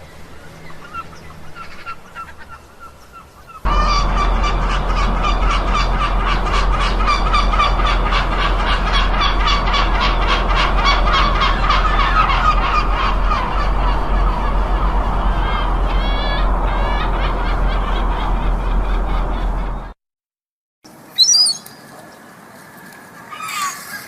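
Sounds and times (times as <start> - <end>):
flock of gulls calling: 0.7 - 19.9, 23.2 - 24.0.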